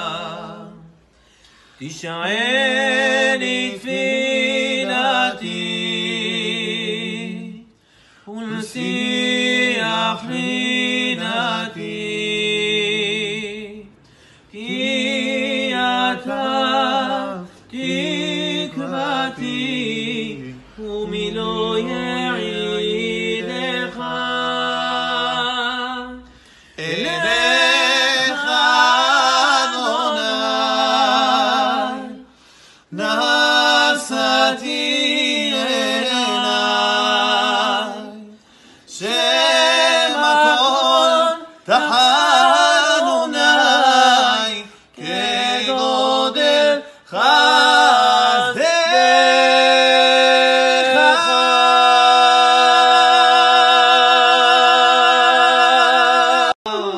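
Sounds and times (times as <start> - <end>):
men singing a cappella: 0.0 - 56.9.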